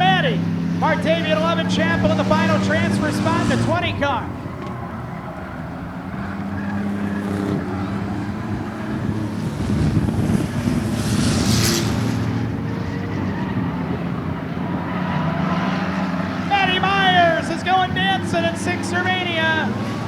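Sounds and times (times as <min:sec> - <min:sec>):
race car engines passing: 0:00.0 - 0:20.0.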